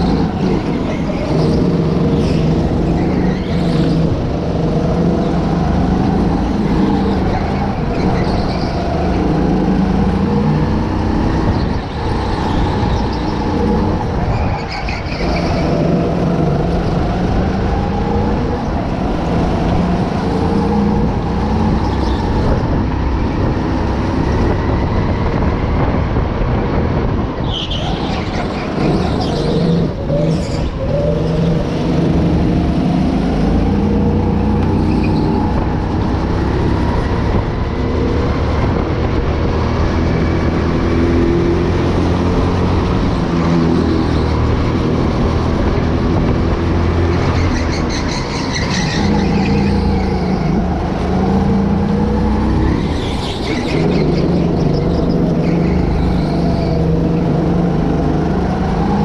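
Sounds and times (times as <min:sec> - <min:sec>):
go-kart engine revving: 0:00.0 - 0:26.3, 0:27.0 - 0:59.0.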